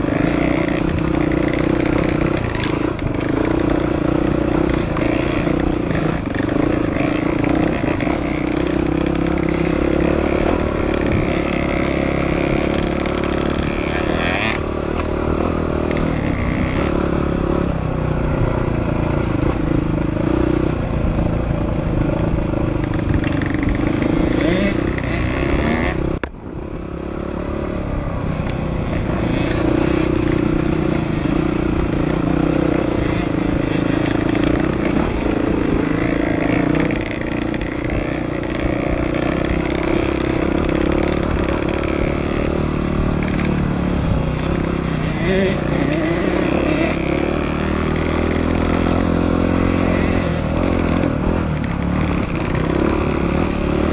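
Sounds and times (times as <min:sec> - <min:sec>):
dirt bike engine riding: 0:00.0 - 0:53.9.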